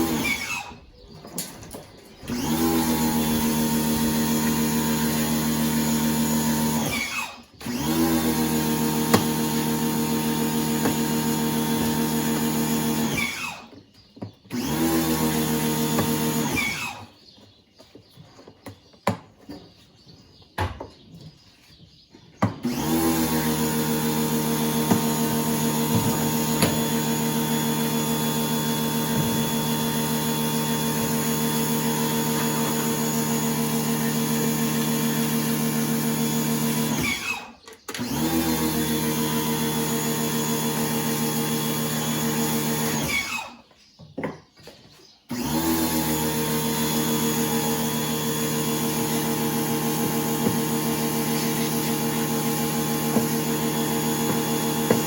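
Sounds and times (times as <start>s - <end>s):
power tool motor running: 0.0s - 0.8s, 2.2s - 13.8s, 14.5s - 17.2s, 22.6s - 43.7s, 45.3s - 55.0s.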